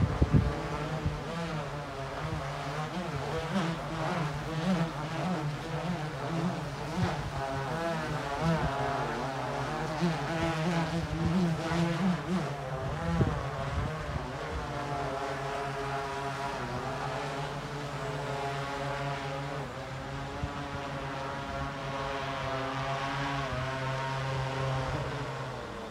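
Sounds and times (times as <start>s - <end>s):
drone propellers whining: 0.0s - 25.9s.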